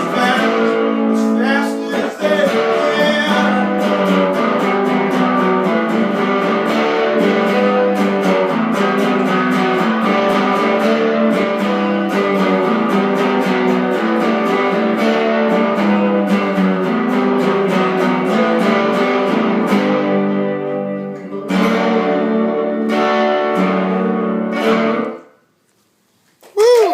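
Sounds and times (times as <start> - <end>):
guitar strumming: 0.0 - 25.6.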